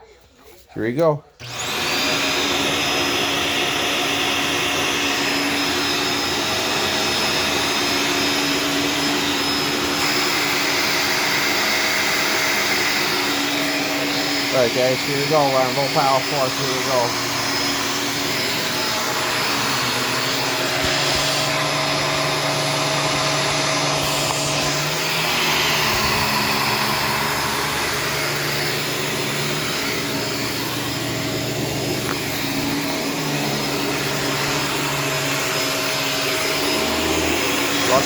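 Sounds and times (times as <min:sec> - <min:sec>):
upright vacuum cleaner running: 0:01.4 - 0:38.0.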